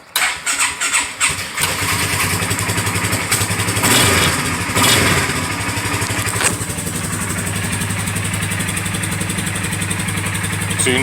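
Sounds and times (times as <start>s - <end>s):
atv engine idling: 0.1s - 11.0s.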